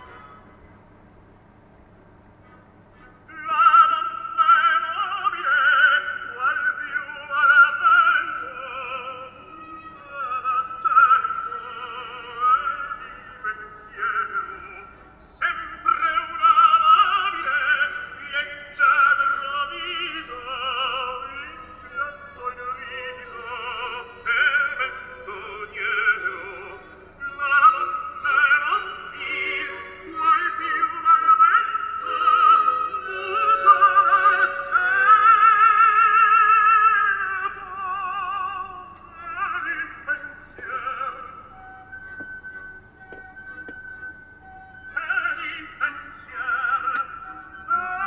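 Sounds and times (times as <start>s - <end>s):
operatic singing through speakers: 3.3s - 48.0s.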